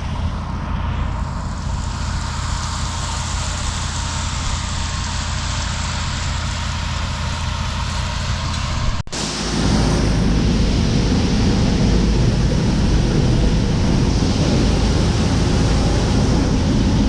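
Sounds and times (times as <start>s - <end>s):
large engine droning: 0.0s - 17.0s.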